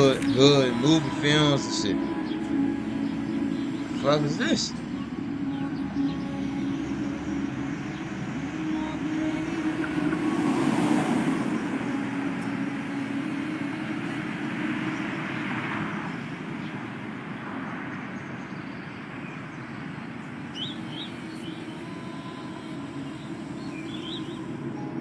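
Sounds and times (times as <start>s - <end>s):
bird chirps: 0.0s - 14.0s, 14.6s - 25.0s
low rumbling ambience: 0.0s - 25.0s.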